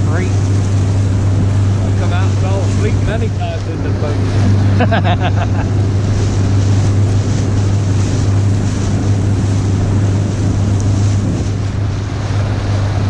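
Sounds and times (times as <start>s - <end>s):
outboard motor droning: 0.0s - 13.0s
rushing water: 0.0s - 13.0s
wind: 0.0s - 13.0s.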